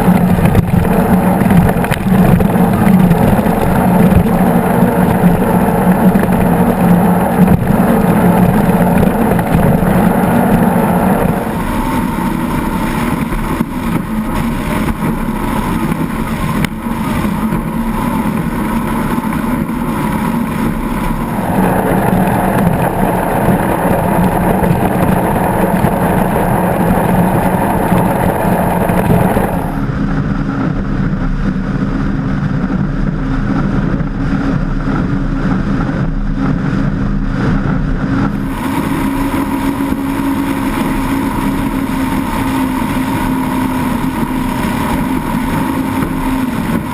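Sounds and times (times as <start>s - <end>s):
boat engine drone: 0.0s - 46.9s
wind and water rush: 0.0s - 46.9s.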